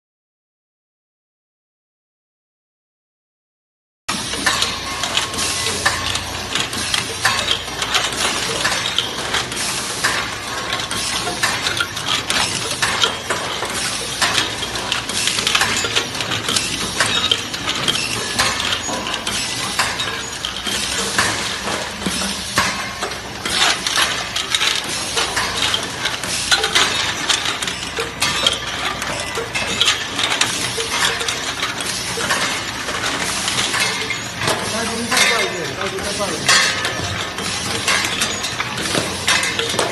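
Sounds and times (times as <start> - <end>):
machine clattering with rapid clicks: 4.1 - 39.9.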